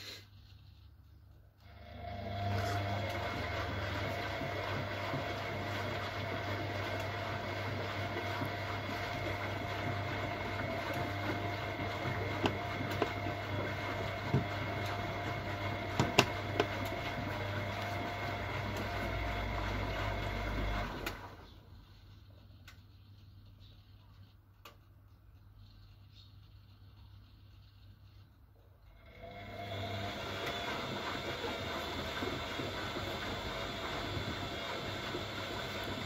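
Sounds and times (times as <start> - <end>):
washing machine motor hum: 0.7 - 36.0.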